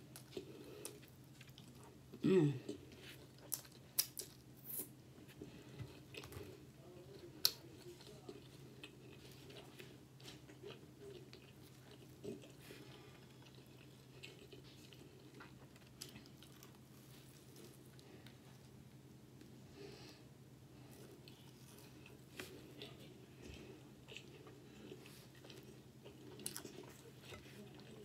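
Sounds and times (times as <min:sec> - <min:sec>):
person chewing food: 0:00.0 - 0:18.8, 0:20.8 - 0:28.0.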